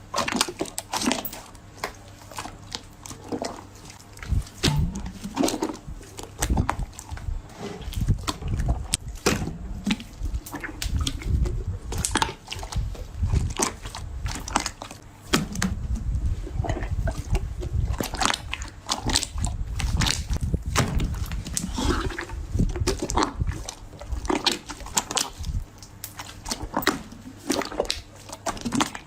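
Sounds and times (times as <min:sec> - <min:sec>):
slime squelching and crackling: 0:00.0 - 0:29.0.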